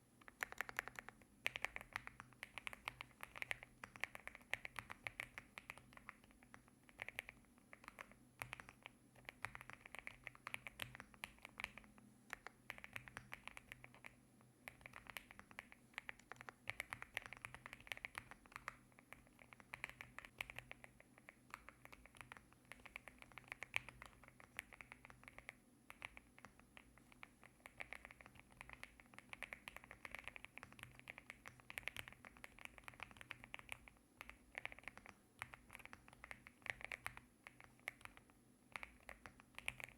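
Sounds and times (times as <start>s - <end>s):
mechanical keyboard typing: 0.2s - 39.9s.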